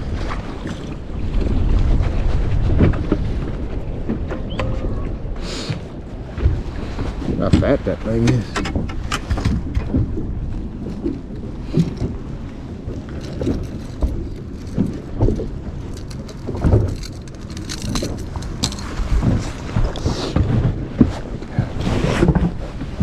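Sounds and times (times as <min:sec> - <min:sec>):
water slapping against boat hull: 0:00.0 - 0:23.0
wind on microphone: 0:00.0 - 0:23.0.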